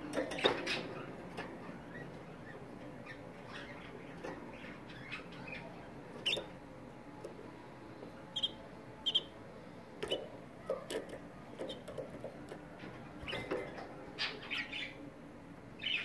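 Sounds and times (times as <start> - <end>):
canaries chirping: 0.0 - 16.0.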